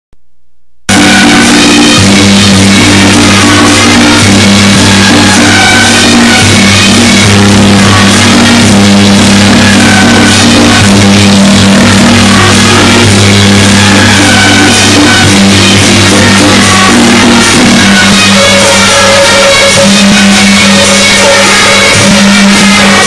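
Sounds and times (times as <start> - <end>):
loud music with drums: 0.9 - 23.0.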